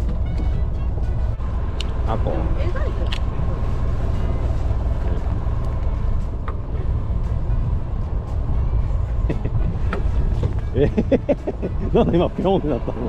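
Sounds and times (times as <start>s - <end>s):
boat low rumble: 0.0s - 13.0s.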